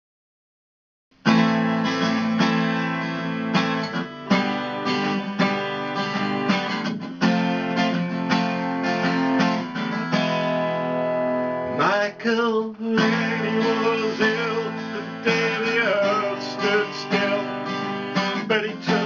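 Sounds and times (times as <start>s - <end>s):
acoustic guitar strumming chords: 1.2s - 19.0s.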